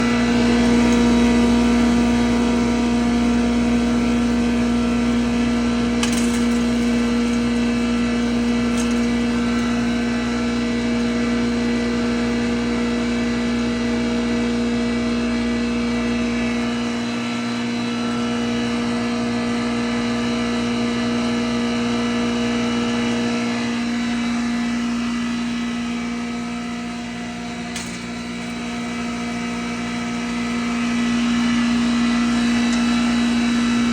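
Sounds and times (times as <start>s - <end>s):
grinder machine humming: 0.0s - 33.9s.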